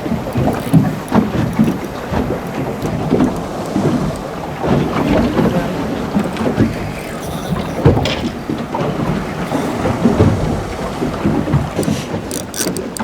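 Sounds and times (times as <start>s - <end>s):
wind buffeting microphone: 0.0s - 12.6s
water noise: 0.0s - 13.0s.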